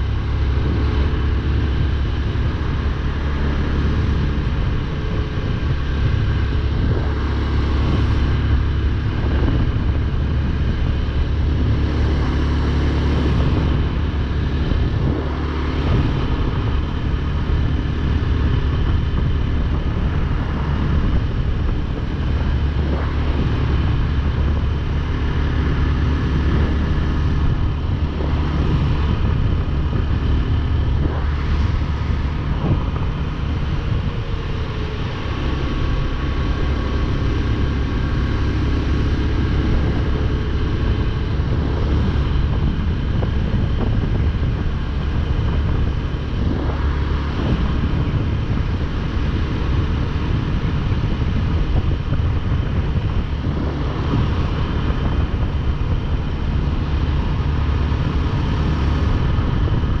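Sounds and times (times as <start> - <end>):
motorcycle engine running evenly: 0.0 - 60.0
road noise: 0.0 - 60.0.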